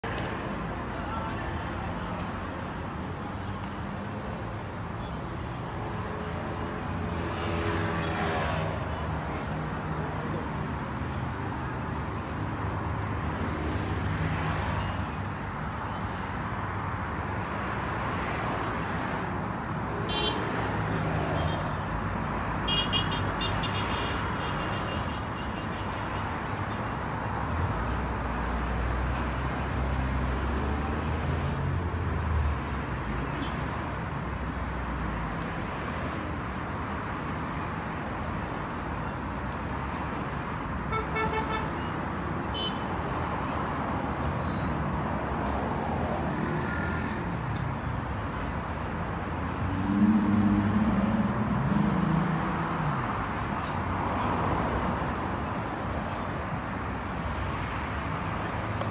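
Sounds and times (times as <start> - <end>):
road traffic: 0.0 - 58.9.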